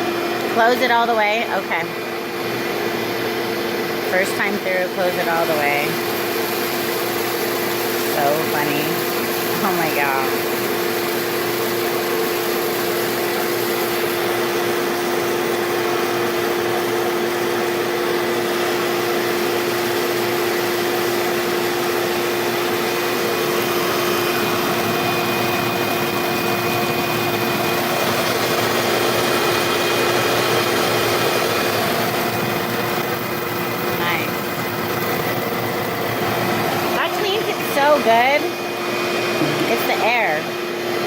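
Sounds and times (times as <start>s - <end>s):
shop vac humming: 0.0s - 41.0s.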